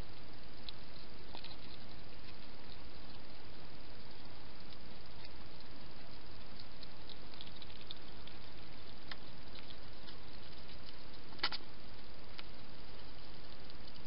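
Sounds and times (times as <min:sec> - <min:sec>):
hedgehog eating clicks: 0:00.0 - 0:14.0
microphone hiss: 0:00.0 - 0:14.0.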